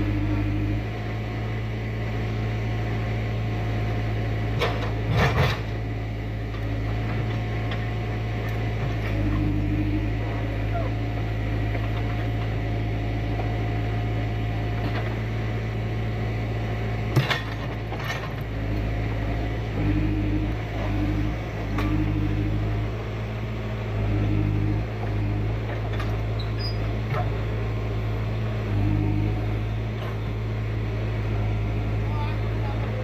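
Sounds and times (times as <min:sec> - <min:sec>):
heavy vehicle engine running: 0:00.0 - 0:33.0.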